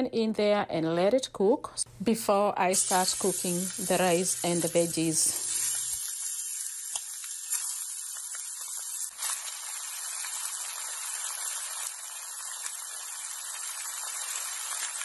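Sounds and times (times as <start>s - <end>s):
chicken sizzling in oil: 2.7s - 15.0s.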